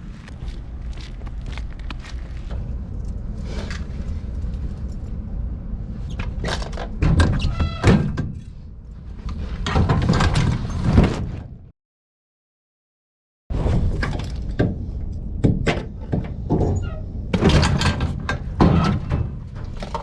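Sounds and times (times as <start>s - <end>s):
steady low rumble: 0.0s - 7.3s, 8.0s - 10.3s, 13.5s - 20.0s.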